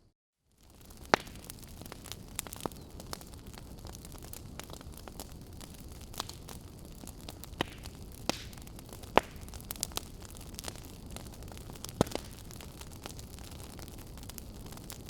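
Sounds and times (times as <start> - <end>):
wood fire crackling: 0.5 - 15.0.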